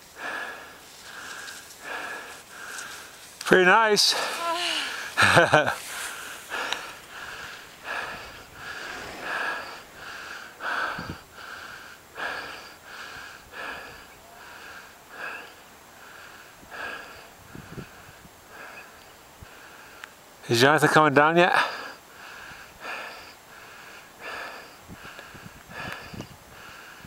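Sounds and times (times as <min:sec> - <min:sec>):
person breathing hard: 0:00.2 - 0:03.2, 0:04.1 - 0:20.0, 0:21.6 - 0:27.0.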